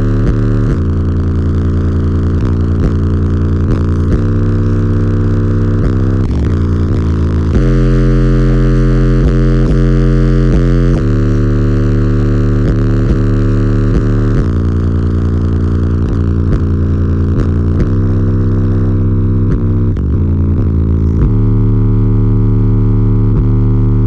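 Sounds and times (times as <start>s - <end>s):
deep bass notes from car subwoofers: 0.0s - 24.0s.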